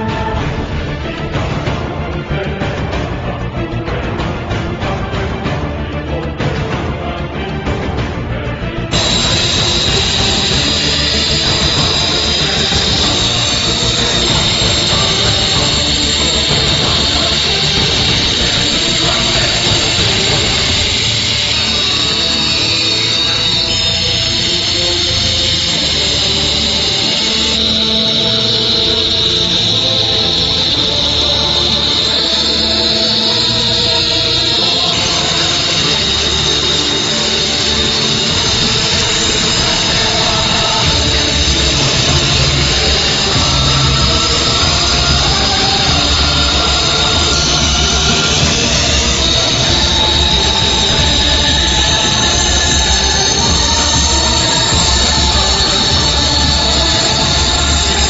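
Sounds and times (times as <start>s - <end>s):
background music: 0.0s - 58.0s
electric circular saw running: 8.9s - 58.0s.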